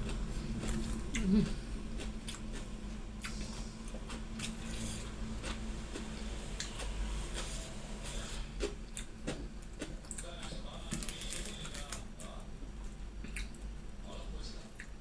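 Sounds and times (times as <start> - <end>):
person chewing: 0.0 - 13.7
steady low hum: 0.0 - 15.0.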